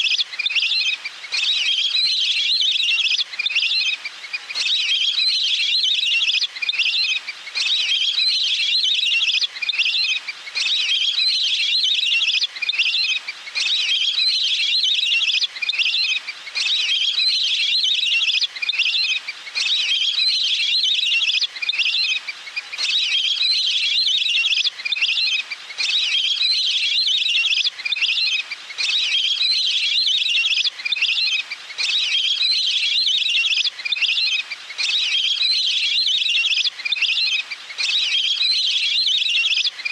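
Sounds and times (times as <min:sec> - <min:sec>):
recorded waterbird calls: 0:00.0 - 0:39.9.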